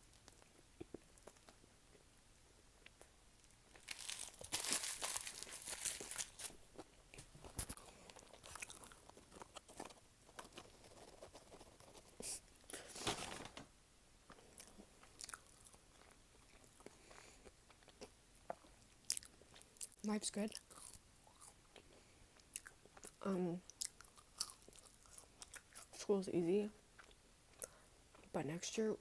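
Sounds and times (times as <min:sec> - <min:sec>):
chewing and crunching food: 0:00.0 - 0:12.9, 0:14.3 - 0:26.1, 0:26.7 - 0:28.8.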